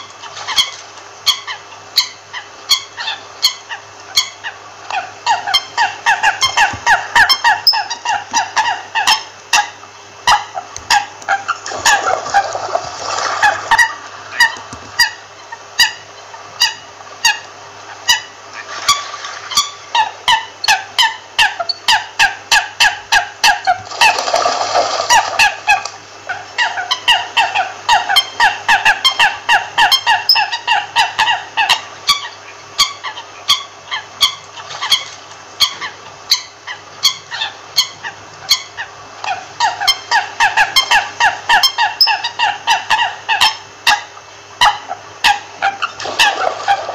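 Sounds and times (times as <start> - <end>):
coots calling: 0.0 - 46.9.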